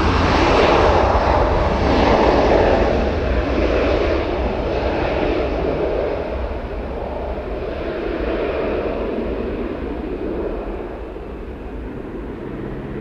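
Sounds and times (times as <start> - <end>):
jet airliner taking off: 0.0 - 13.0.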